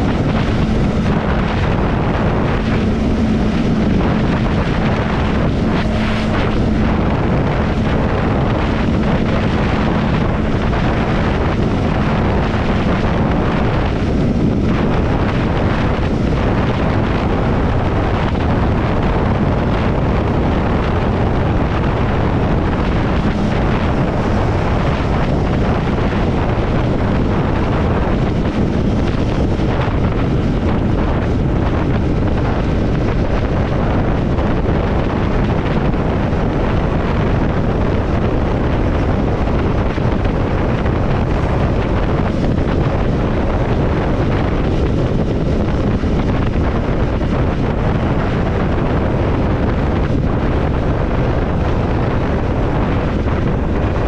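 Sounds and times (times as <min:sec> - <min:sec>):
motorcycle engine humming: 0:00.0 - 0:54.0
wind rushing over microphone: 0:00.0 - 0:54.0.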